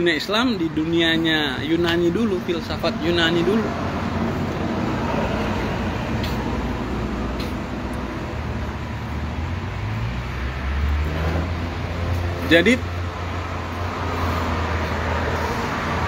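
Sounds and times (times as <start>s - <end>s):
traffic noise: 0.0s - 16.0s
vehicle rumble passing close: 1.0s - 16.0s.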